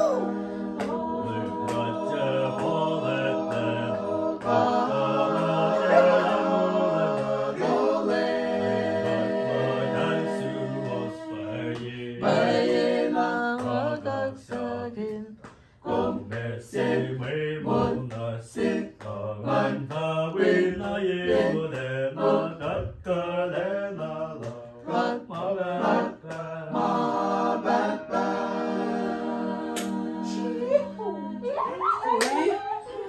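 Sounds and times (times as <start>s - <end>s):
slow song with singing voices: 0.0s - 33.0s.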